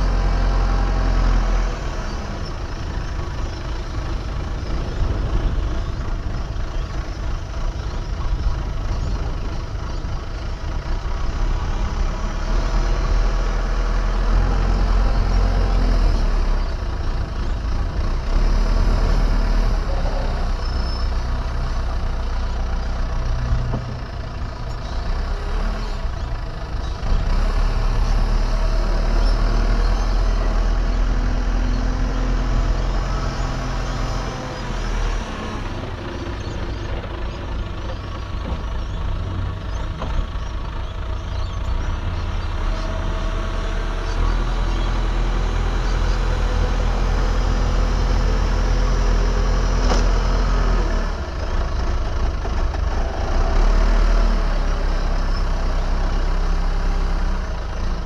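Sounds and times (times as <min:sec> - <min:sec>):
diesel engine of heavy machinery: 0:00.0 - 0:58.0.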